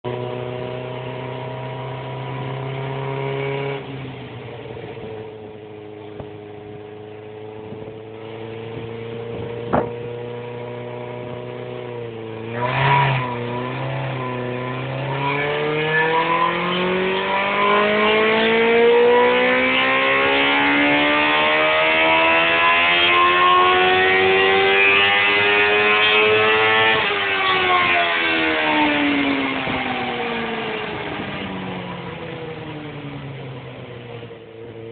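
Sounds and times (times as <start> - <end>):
motorcycle engine revving on a dyno: 0.0 - 34.9.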